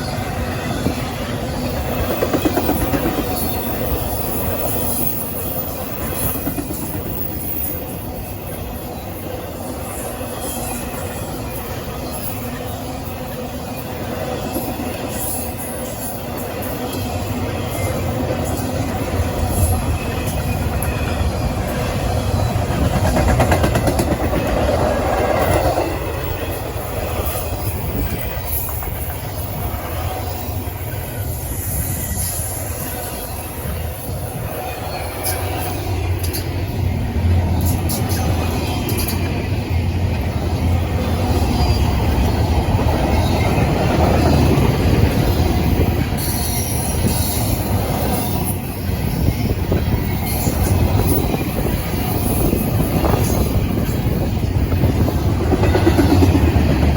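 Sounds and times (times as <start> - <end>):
freight train rumbling on rails: 0.0 - 56.9
train wheel clatter: 0.0 - 56.9.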